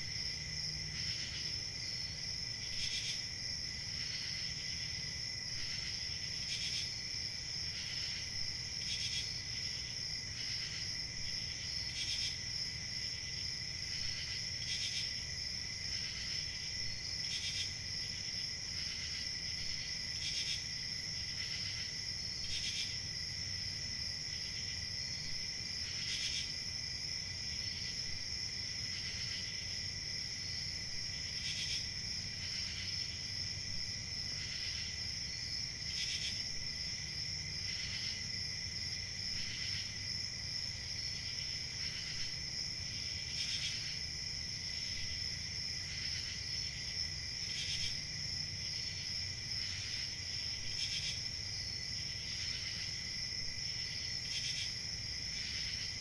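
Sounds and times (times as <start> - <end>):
crickets chirping: 0.0 - 56.0
low steady insect note: 0.0 - 56.0.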